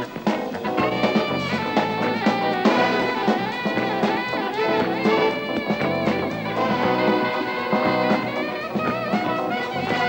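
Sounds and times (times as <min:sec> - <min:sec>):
alto saxophone lead line: 0:00.0 - 0:10.0
big band swing jazz: 0:00.0 - 0:10.0
drum kit: 0:00.0 - 0:10.0.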